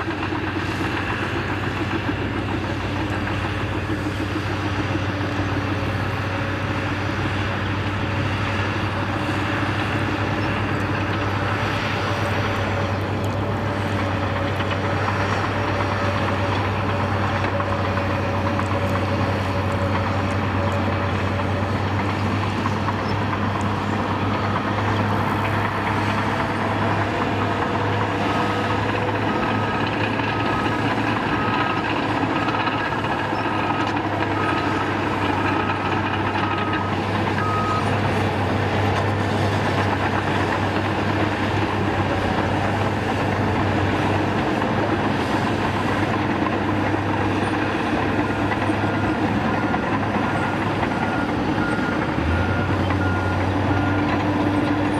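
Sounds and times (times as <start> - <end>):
diesel earthmoving machinery running: 0.0 - 54.9.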